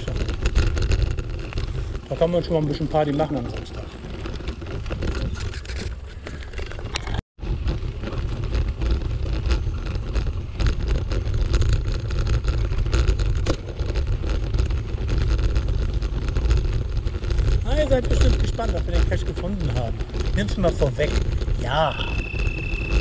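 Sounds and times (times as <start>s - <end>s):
bicycle rattling: 0.0s - 23.0s
tyres crackling over gravel: 0.0s - 23.0s
wind rumbling on microphone: 0.0s - 23.0s.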